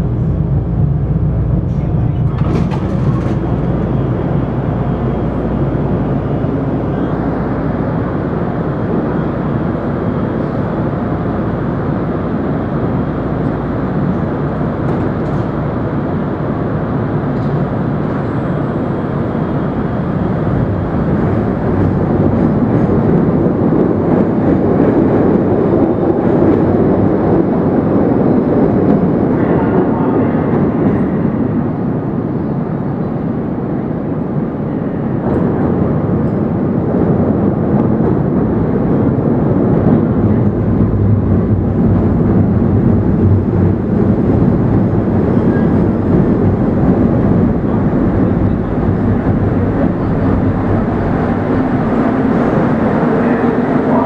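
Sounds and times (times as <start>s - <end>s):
elevated train rumble: 0.0s - 54.0s.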